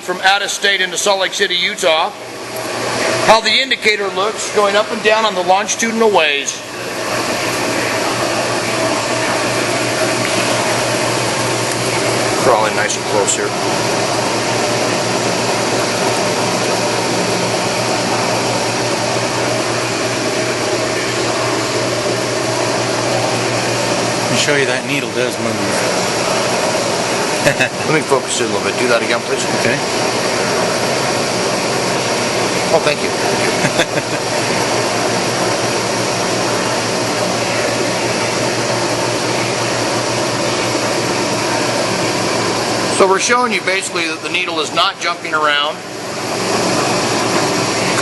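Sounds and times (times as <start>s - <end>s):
lathe whirring: 0.0s - 48.0s.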